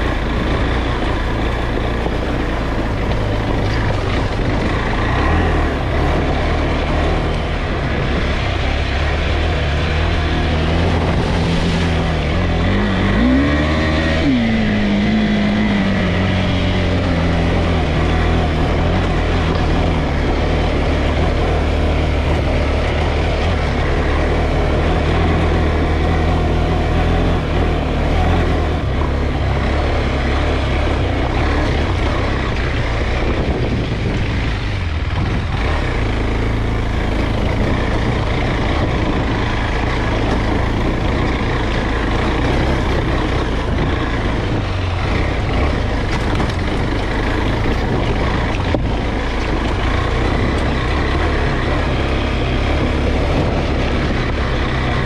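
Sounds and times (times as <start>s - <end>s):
tyres on rocky ground: 0.0s - 26.2s, 27.6s - 55.0s
motorcycle engine running: 0.0s - 55.0s
wind: 0.0s - 55.0s.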